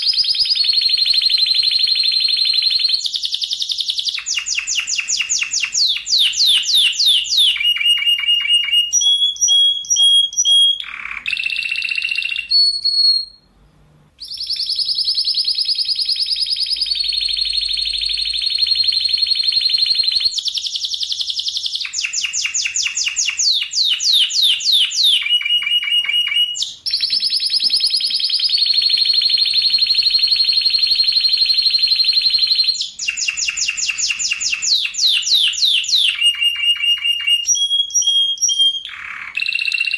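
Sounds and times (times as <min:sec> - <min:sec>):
canary singing trills: 0:00.0 - 0:13.5, 0:14.2 - 0:39.9.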